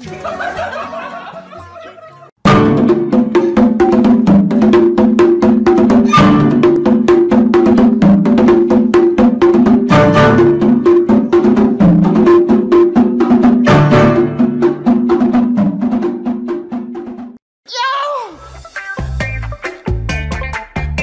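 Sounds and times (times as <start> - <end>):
background music with percussive beat: 2.4 - 17.4, 18.4 - 21.0.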